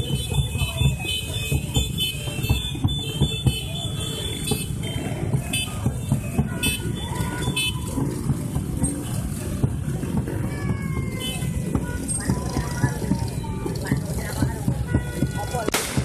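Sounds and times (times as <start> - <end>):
motorcycle horns: 0.0 - 10.1, 11.1 - 16.0
motorcycle engines running: 0.0 - 16.0.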